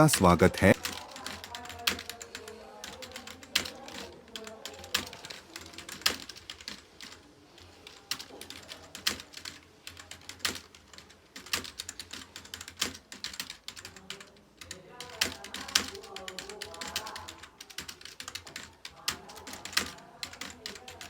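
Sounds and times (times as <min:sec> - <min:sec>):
fast keyboard typing: 0:00.0 - 0:21.0.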